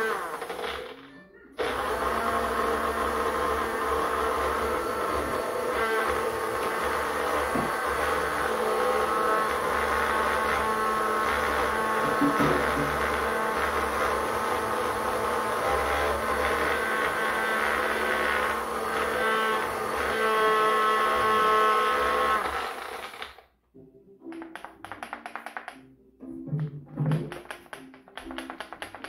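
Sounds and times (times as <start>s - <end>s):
blender motor whining: 0.0s - 23.5s.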